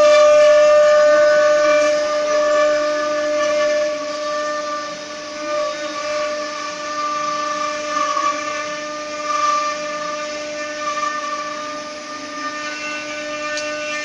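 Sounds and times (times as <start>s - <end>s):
wood router spindles whining: 0.0s - 14.0s.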